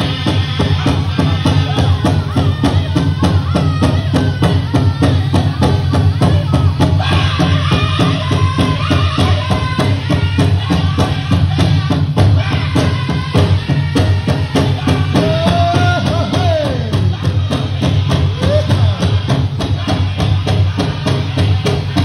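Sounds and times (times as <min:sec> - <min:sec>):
drum group singing: 0:00.0 - 0:22.0
steady big drum beat: 0:00.0 - 0:22.0.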